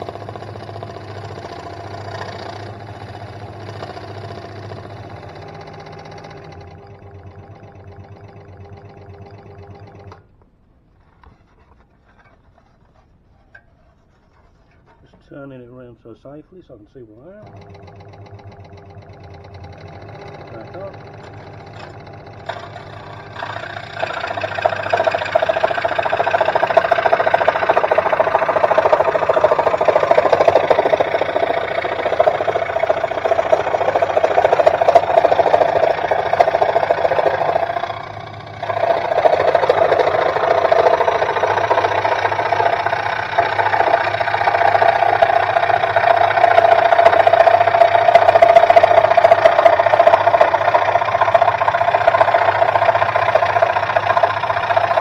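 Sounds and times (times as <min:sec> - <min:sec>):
scroll saw cutting wood: 0:00.0 - 0:10.2, 0:17.4 - 0:55.0.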